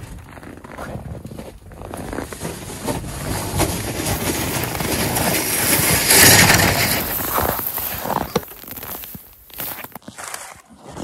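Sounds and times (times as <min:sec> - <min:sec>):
boots crunching on snow: 0:00.2 - 0:10.6.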